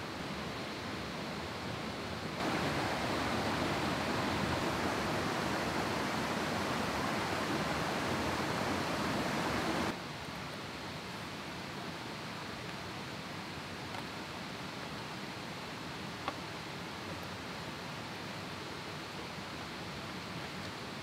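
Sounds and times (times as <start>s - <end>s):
mountain stream rushing: 0.0s - 21.0s.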